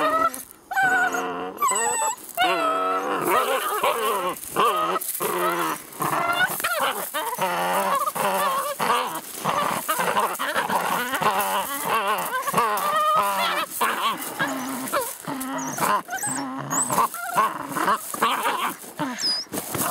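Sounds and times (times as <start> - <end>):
puppies growling and whining: 0.0 - 19.9.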